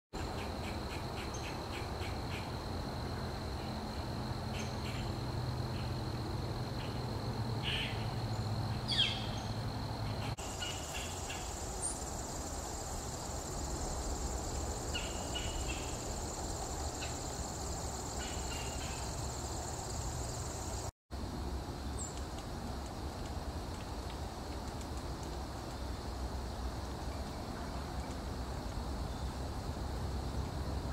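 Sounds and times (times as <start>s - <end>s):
insects trilling: 0.2s - 30.9s.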